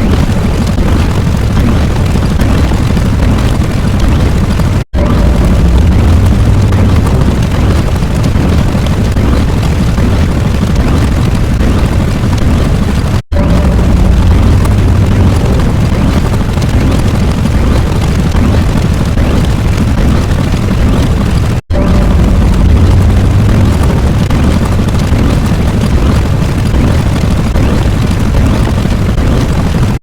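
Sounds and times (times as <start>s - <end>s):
deep continuous rumbling: 0.0s - 30.0s.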